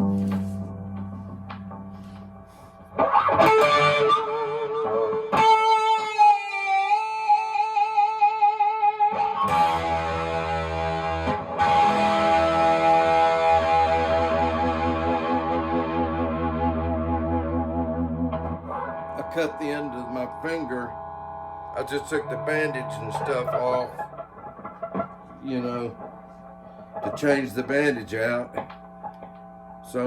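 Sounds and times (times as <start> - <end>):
distorted slide electric guitar: 0.0 - 30.0.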